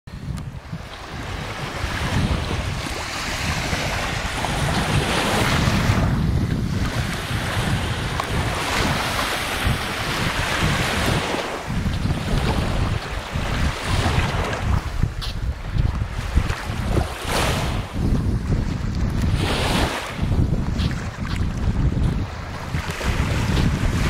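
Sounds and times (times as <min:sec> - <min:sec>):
waves washing onto beach: 0:00.1 - 0:24.0
wind buffeting microphone: 0:00.1 - 0:24.0.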